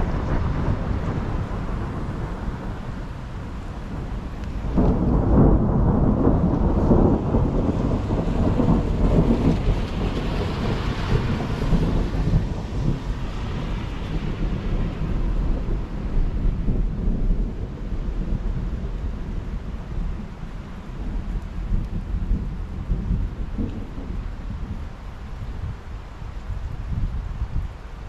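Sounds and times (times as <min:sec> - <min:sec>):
thunder rumbling: 0:00.0 - 0:27.8
steady rain: 0:00.0 - 0:28.0.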